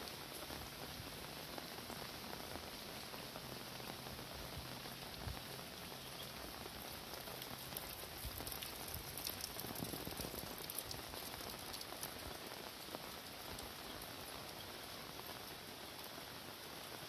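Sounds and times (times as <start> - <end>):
raindrops ticking on surfaces: 0.0 - 17.0
steady rain: 0.0 - 17.0.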